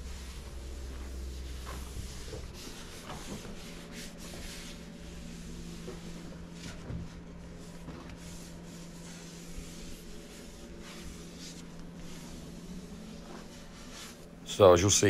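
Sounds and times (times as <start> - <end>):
cloth rubbing car panel: 0.0 - 14.4
steady low hum: 0.0 - 15.0.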